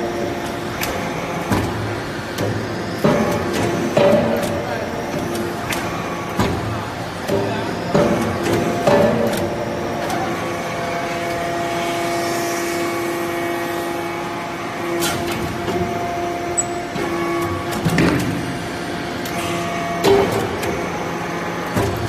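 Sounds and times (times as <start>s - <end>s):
hydraulic power unit whining: 0.0s - 22.0s.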